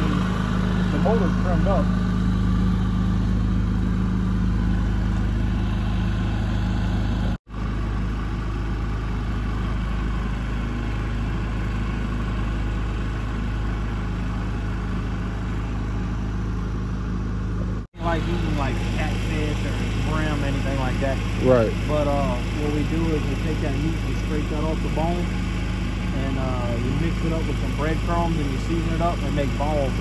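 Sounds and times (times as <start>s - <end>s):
boat motor running: 0.0s - 30.0s.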